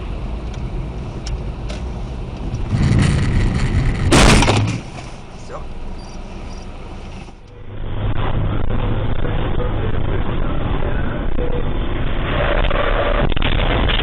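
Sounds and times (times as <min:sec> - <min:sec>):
car engine and road noise: 0:00.0 - 0:14.0
low hum: 0:00.0 - 0:14.0.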